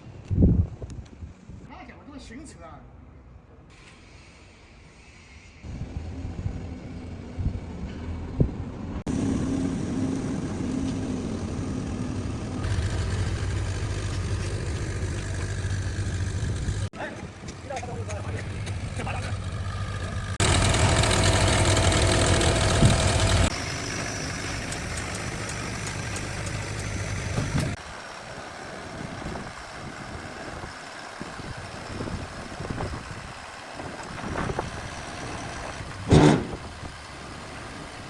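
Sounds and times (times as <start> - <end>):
truck engine running: 5.7 - 38.0.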